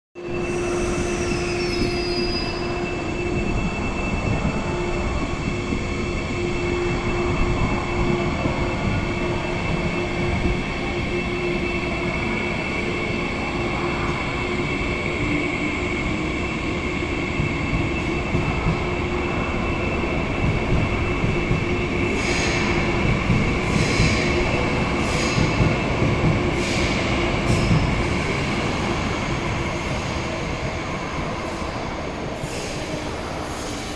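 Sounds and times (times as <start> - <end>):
electric train pulling away: 0.2 - 33.9.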